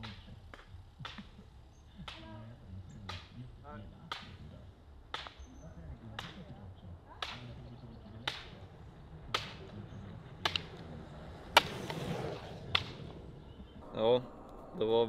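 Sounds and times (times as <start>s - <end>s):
sharp cracks: 0.0s - 2.4s, 3.0s - 14.9s.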